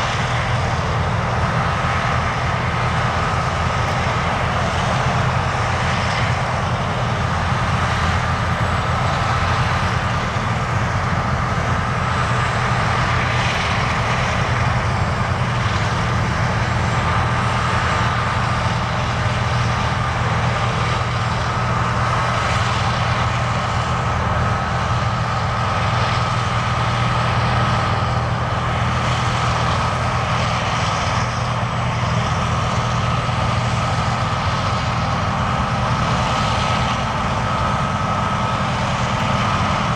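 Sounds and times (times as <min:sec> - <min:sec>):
harvester engine drone: 0:00.0 - 0:39.9.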